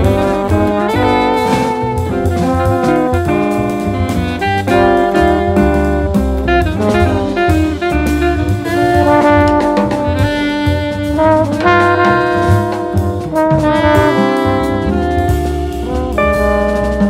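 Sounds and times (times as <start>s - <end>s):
drum kit: 0.0s - 17.0s
jazz brass horns: 0.0s - 17.0s.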